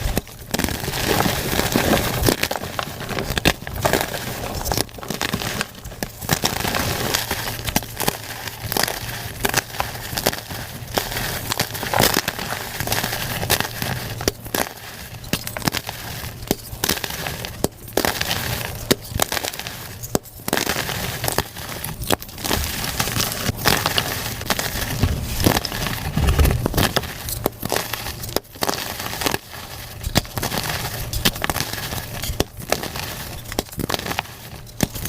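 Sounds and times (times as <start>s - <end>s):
chalk crunching and crackling: 0.0s - 35.0s.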